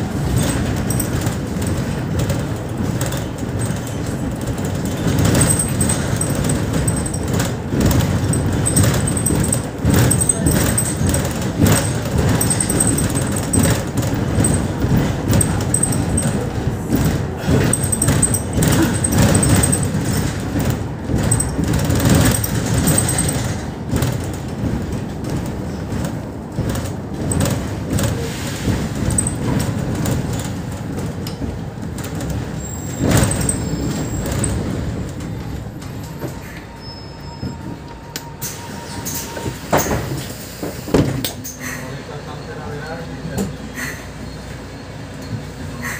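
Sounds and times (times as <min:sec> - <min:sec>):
bus engine and road rumble: 0:00.0 - 0:45.9
knocks and rattles in bus cabin: 0:00.0 - 0:45.9.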